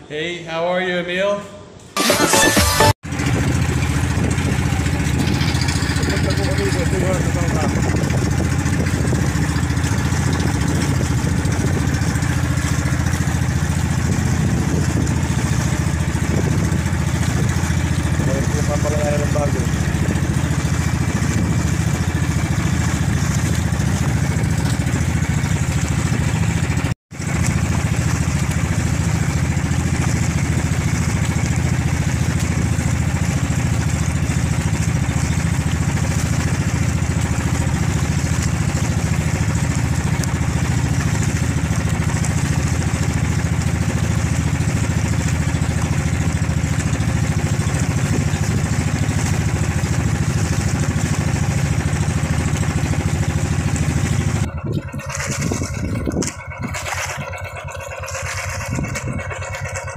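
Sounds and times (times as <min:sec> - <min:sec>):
boat engine rumbling: 0:02.6 - 0:59.9.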